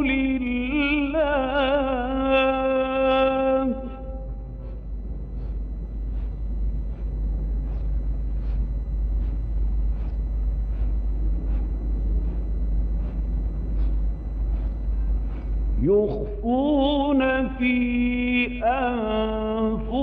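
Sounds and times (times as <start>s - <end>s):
low hum and rumble: 0.0s - 20.0s.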